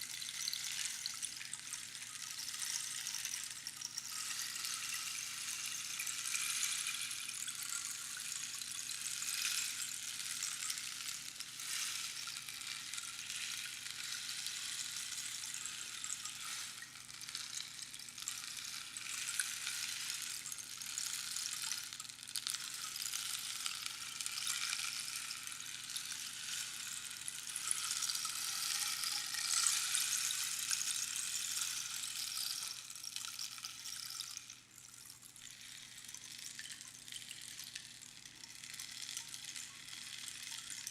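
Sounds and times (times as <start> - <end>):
rainstick pebbles trickling: 0.0 - 40.9.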